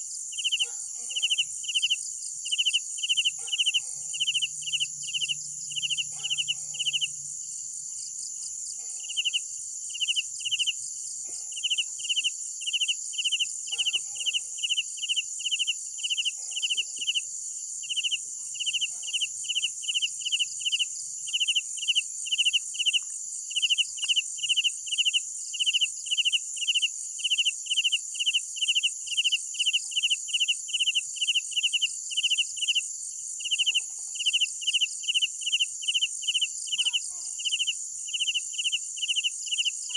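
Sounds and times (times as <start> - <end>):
crickets chirping: 0.0 - 39.9
high-pitched insect trill: 0.3 - 11.0, 11.6 - 39.9.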